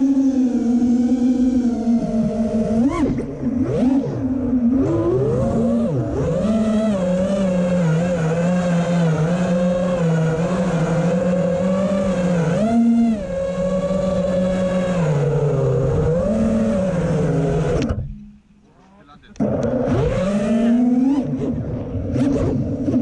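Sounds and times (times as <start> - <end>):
quadcopter motors whining: 0.0 - 18.3, 19.2 - 23.0.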